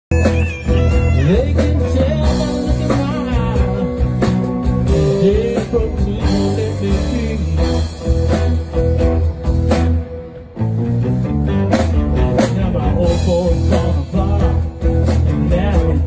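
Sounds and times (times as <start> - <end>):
drums: 0.0 - 16.0
bass line: 0.1 - 16.0
guitar playing sliding notes: 0.1 - 16.0.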